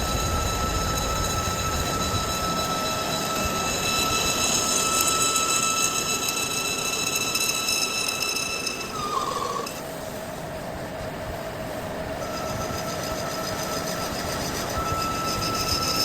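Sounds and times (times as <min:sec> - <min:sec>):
high-pitched metallic machine whine: 0:00.0 - 0:16.0
mechanical background noise: 0:00.0 - 0:16.0.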